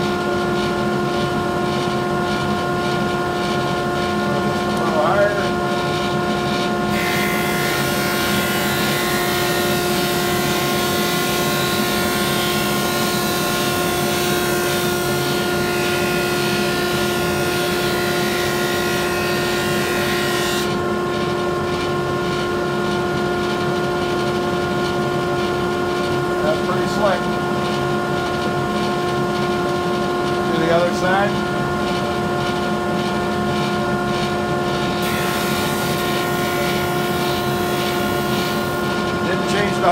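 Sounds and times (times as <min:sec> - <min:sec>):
drum sander whining: 0:02.0 - 0:39.9.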